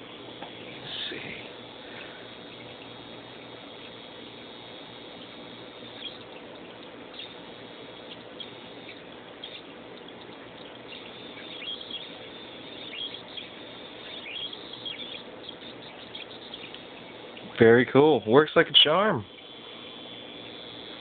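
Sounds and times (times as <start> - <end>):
faint low electronic hum: 0.0 - 21.0.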